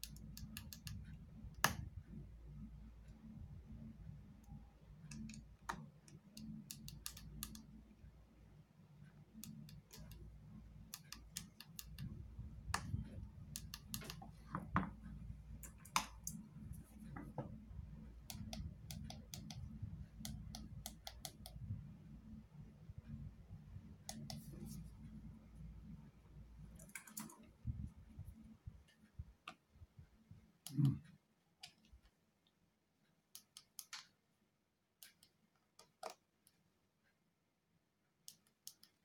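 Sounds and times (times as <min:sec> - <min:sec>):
faint low hum: 0:00.0 - 0:33.4.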